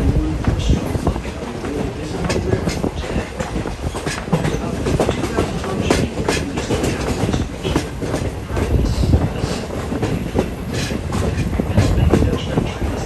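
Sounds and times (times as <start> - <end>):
train coach rumbling: 0.0 - 13.0
wheels clacking on rails: 0.0 - 13.0.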